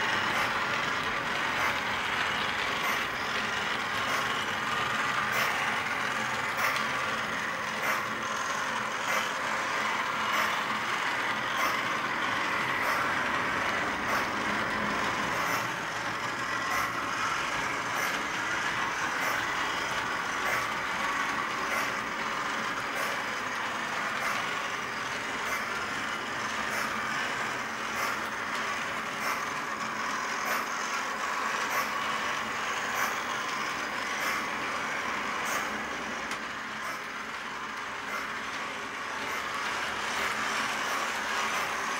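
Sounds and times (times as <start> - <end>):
model train whirring rumble: 0.0 - 41.9.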